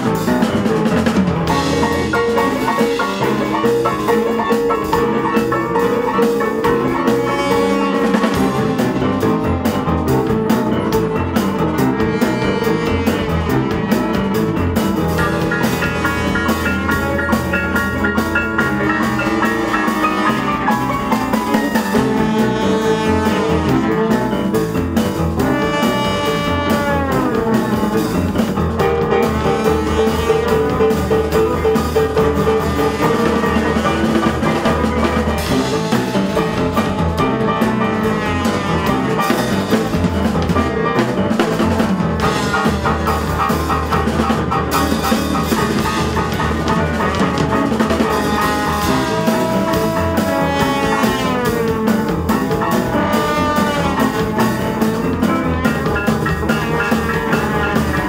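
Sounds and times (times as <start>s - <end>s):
drum kit: 0.0s - 58.0s
electric bass guitar: 0.0s - 58.0s
trombone: 0.0s - 58.0s
french horn melody: 1.7s - 41.6s, 42.2s - 58.0s.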